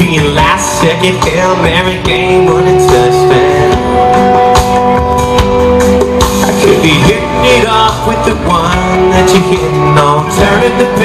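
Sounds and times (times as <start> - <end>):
country rock band playing: 0.0 - 11.0.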